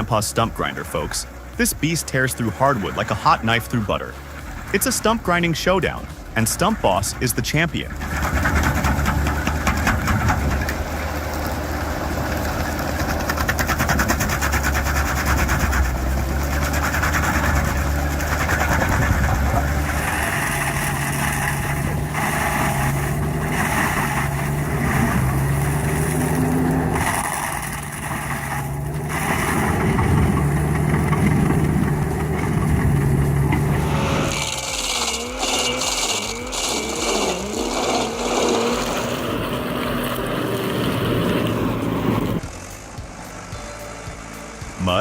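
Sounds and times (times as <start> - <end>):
stump grinder engine running: 0.0 - 43.6.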